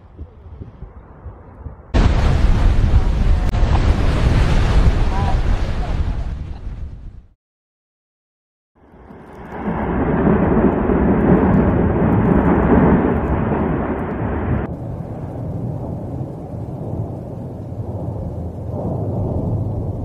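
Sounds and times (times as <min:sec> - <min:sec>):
volcano erupting rumble: 0:01.9 - 0:07.3, 0:09.1 - 0:20.0.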